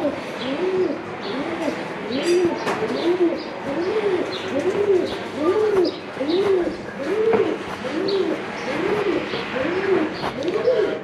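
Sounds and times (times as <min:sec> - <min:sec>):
pigeons cooing: 0:00.0 - 0:11.0
small birds chirping: 0:00.4 - 0:11.0.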